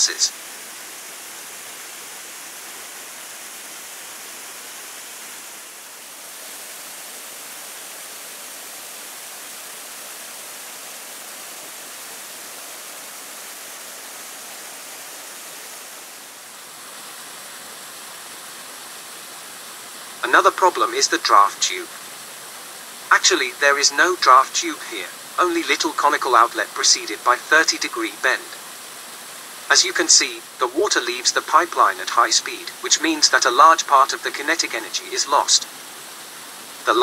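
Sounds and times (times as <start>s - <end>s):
water rushing from turbine outlet: 0.0s - 37.0s.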